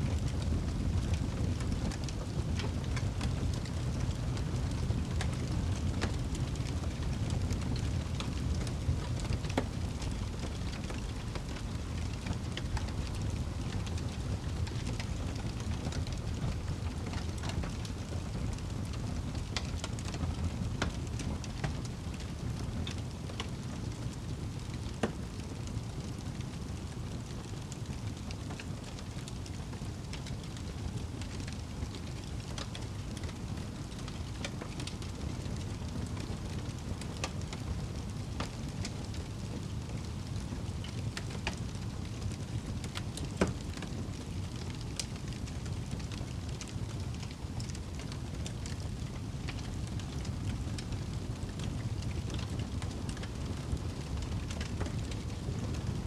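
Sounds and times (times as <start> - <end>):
fire low rumble: 0.0 - 56.0
wood fire crackling: 0.0 - 56.0.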